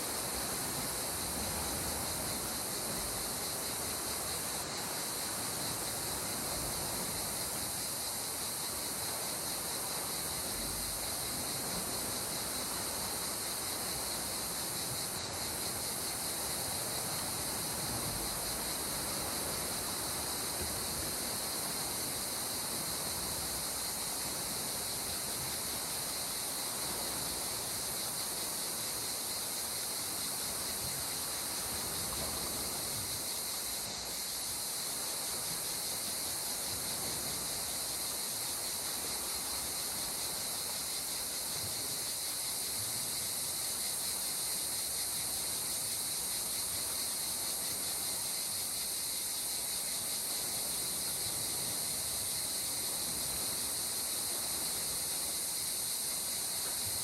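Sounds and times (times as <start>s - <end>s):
high insect chorus: 0.0s - 57.0s.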